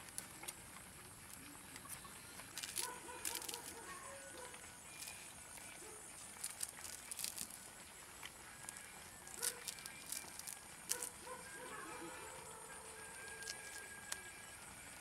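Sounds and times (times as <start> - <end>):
leaf crinkling: 0.0 - 15.0.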